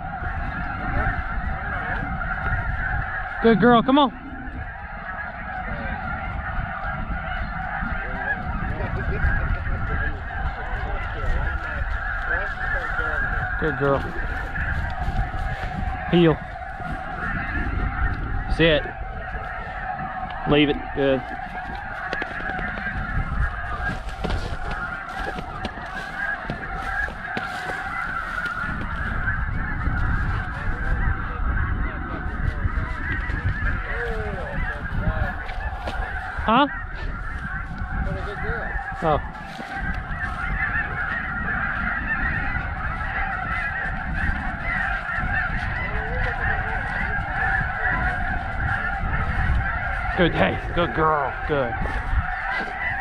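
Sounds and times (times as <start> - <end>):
snow geese honking: 0.0 - 53.0.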